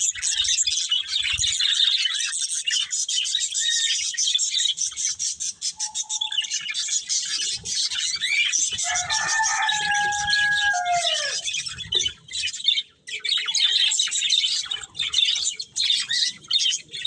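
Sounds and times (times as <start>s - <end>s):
budgies chattering and chirping: 0.0s - 17.0s.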